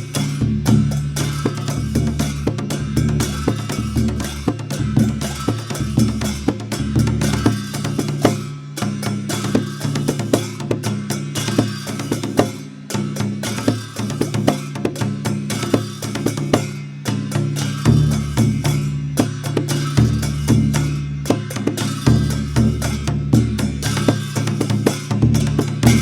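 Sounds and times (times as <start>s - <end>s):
barrel drum played fast: 0.0s - 26.0s.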